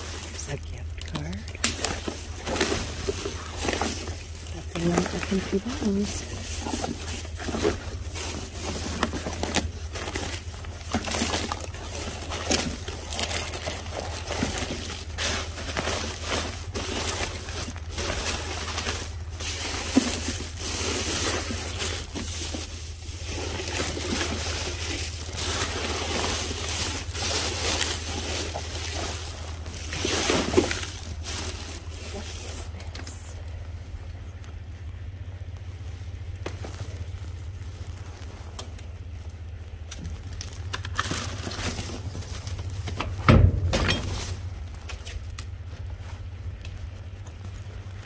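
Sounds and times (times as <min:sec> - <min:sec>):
plastic and paper rustling: 0:00.0 - 0:48.0
steady low hum: 0:00.0 - 0:48.0.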